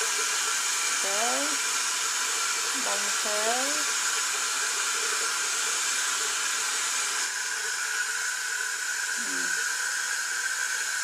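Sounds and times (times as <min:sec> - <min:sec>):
running water hissing: 0:00.0 - 0:11.0.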